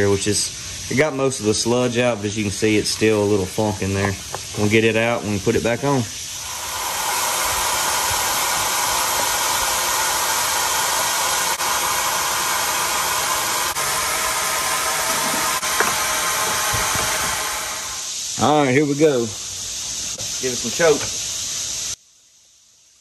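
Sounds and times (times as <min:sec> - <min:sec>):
steady rushing hiss: 0:00.0 - 0:23.0.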